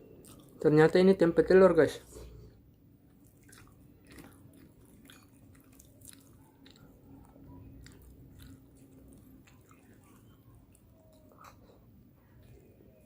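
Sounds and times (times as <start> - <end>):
chewing with small crunches: 0.0 - 0.7, 2.1 - 13.0.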